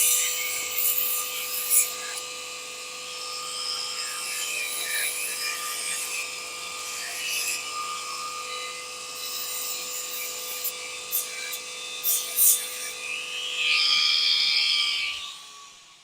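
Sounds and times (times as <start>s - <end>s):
belt sander grinding metal: 0.0s - 15.3s.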